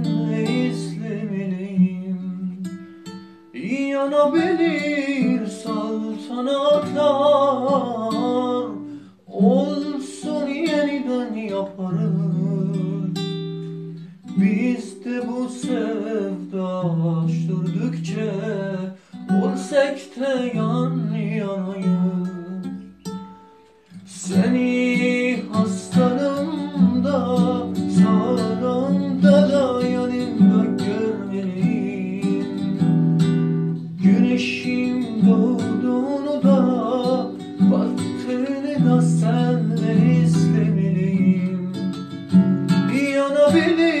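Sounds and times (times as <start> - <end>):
person singing: 0.0 - 2.8, 3.6 - 13.3, 13.9 - 22.9, 24.1 - 32.8, 33.7 - 42.2, 42.8 - 44.0
acoustic guitar: 0.0 - 44.0.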